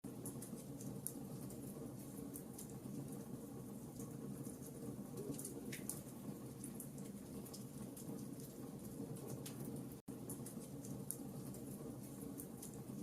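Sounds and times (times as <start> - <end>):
campfire crackling: 0.1 - 13.0.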